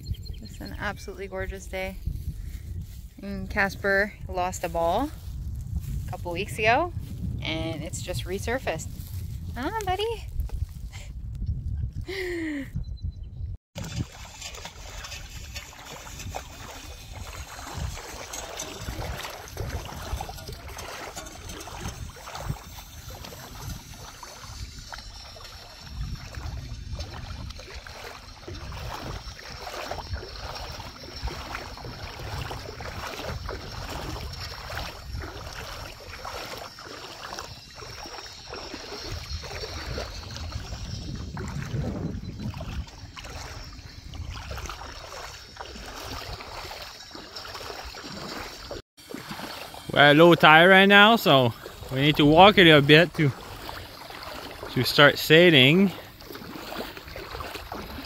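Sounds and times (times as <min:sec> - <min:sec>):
feet wading through water: 0:00.0 - 0:10.9, 0:13.8 - 0:58.0
wind buffeting microphone: 0:00.0 - 0:58.0.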